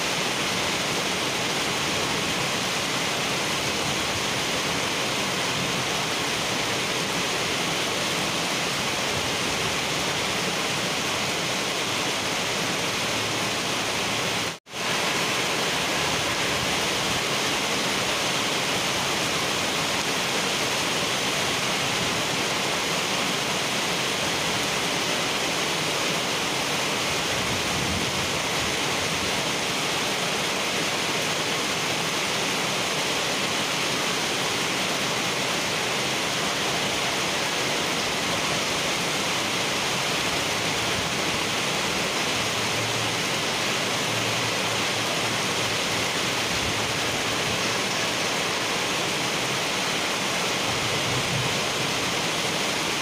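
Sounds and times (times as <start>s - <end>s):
heavy rain on asphalt road: 0.0s - 53.0s.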